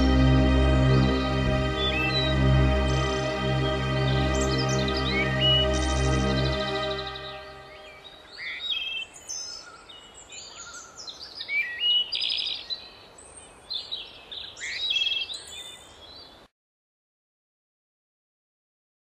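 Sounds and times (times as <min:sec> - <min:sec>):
songbirds chirping and singing: 0:00.0 - 0:16.4.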